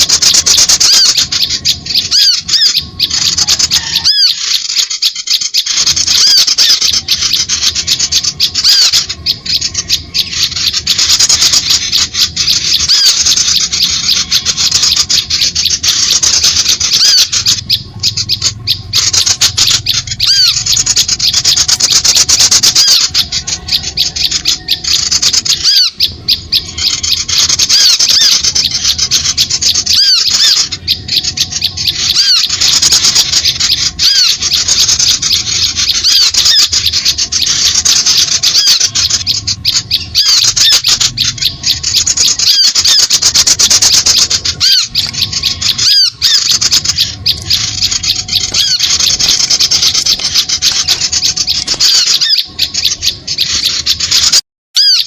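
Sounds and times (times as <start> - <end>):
small birds chattering: 0.0 - 55.0.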